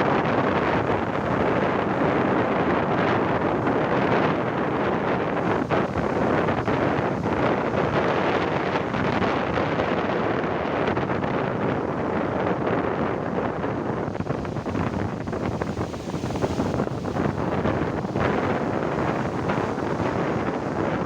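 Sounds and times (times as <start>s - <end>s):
big surf breaking: 0.0s - 21.0s
wind buffeting microphone: 0.0s - 21.0s.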